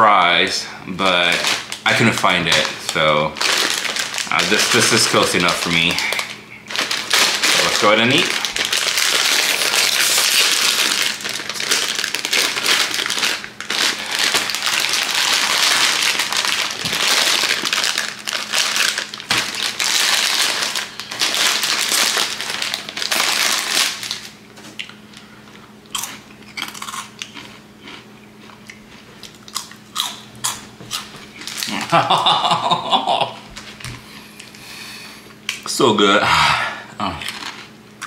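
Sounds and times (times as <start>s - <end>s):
snack bag crinkling: 1.0s - 34.6s, 37.2s - 37.7s.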